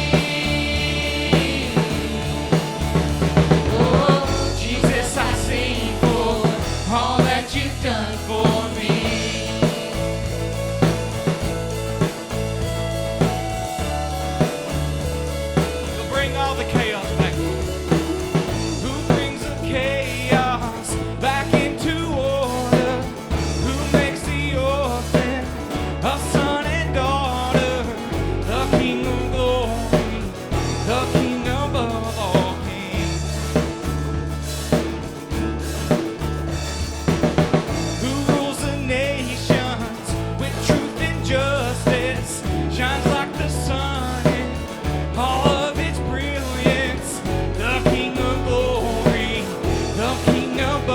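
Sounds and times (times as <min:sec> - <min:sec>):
drum kit beat: 0:00.0 - 0:50.9
worship band music: 0:00.0 - 0:50.9.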